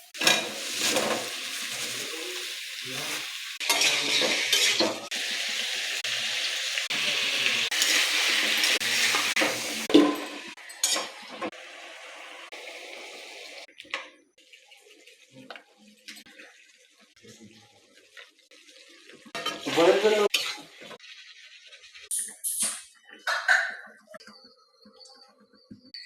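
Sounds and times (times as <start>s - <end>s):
food sizzling in a pot: 0.0s - 13.8s, 14.4s - 23.0s.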